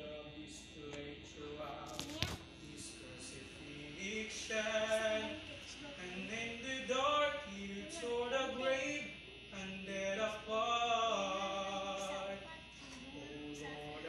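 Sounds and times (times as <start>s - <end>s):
man singing a slow worship song: 0.0s - 14.0s.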